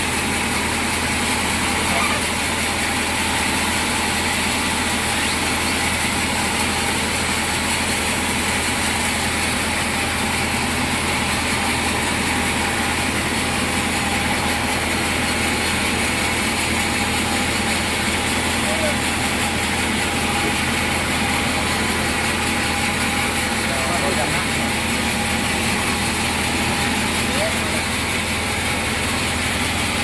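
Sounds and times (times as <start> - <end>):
sawmill machinery engine drone: 0.0 - 30.0.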